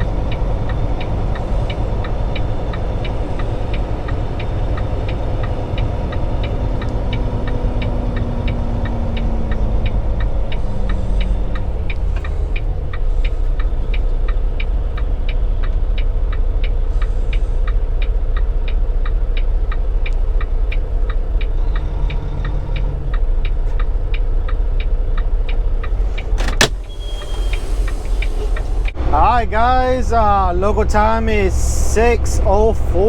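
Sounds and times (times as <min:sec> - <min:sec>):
turn signal clicking: 0:00.0 - 0:29.0
truck engine and road rumble: 0:00.0 - 0:33.0.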